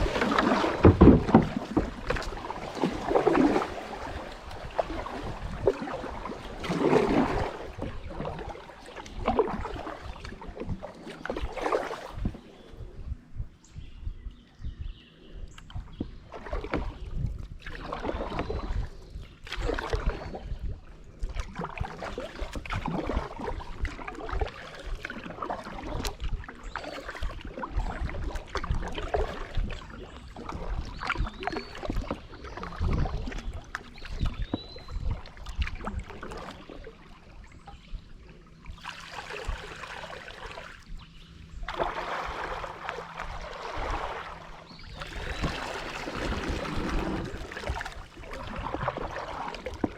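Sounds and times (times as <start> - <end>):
paddle splashing in water: 0.0 - 12.8, 15.6 - 49.9
water moving: 0.0 - 13.8, 15.1 - 49.9.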